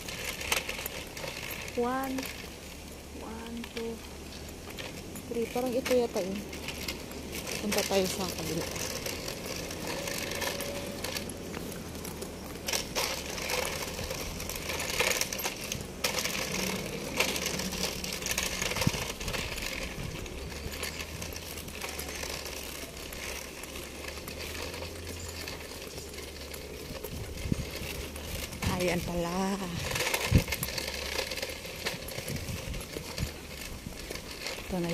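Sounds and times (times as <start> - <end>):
footsteps: 0.0 - 34.9
street background hum: 0.0 - 34.9.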